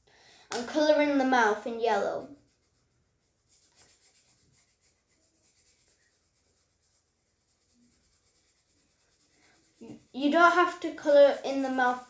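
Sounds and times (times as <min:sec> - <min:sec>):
marker scratching on paper: 0:00.5 - 0:12.0.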